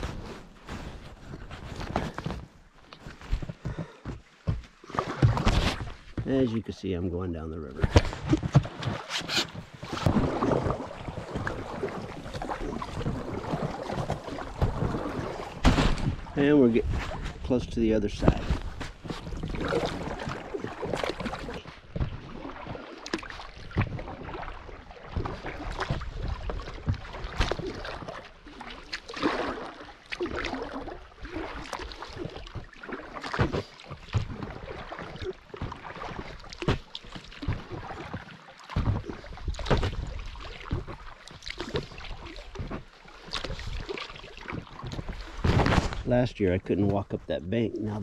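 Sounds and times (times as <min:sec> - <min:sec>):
paddle splashes and drips: 0:00.0 - 0:48.0.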